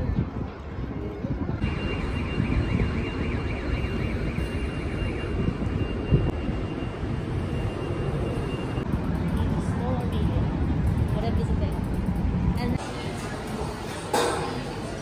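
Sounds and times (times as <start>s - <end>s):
low rumble of cars: 0.0s - 15.0s.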